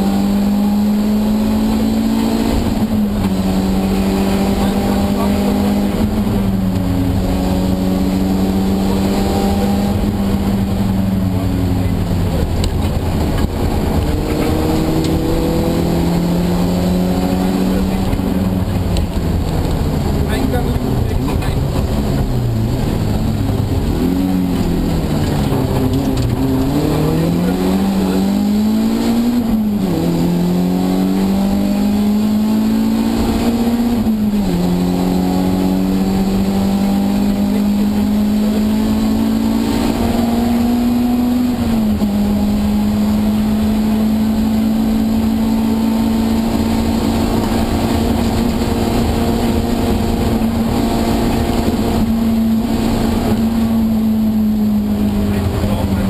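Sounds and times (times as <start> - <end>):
rally car engine accelerating: 0.0 - 56.0
gear upshifts: 0.2 - 56.0.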